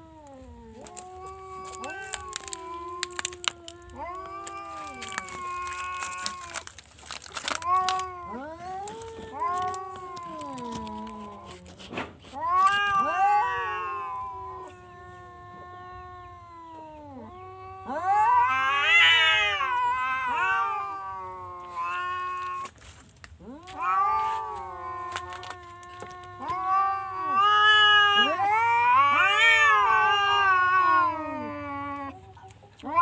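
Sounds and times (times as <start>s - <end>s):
cat yowling: 0.0s - 33.0s.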